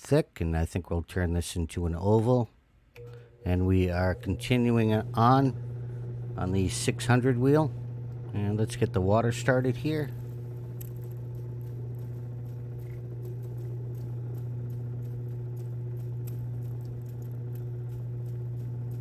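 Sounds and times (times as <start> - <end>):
grinding machine motor humming: 3.0 - 19.0.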